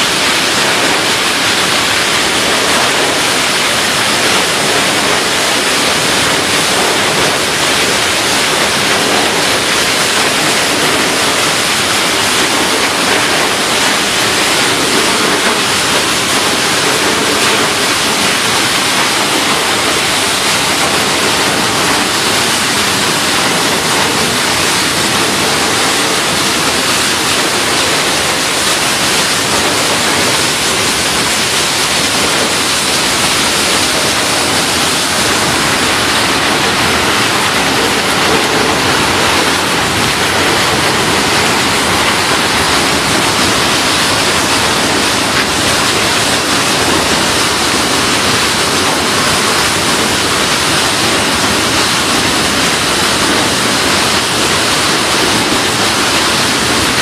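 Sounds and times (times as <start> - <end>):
loud steady rushing noise: 0.0 - 57.0.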